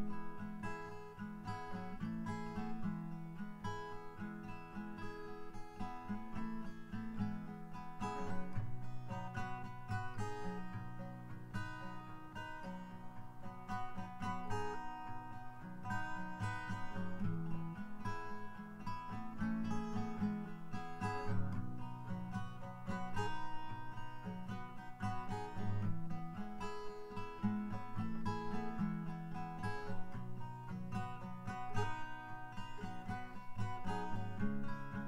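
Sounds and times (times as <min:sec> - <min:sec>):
acoustic guitar plucking: 0:00.0 - 0:35.0.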